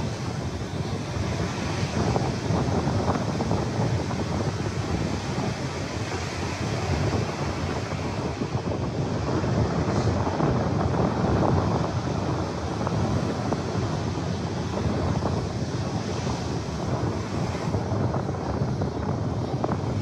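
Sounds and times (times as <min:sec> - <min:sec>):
surf breaking on sandy beach: 0:00.0 - 0:20.0
wind buffeting microphone: 0:00.0 - 0:20.0.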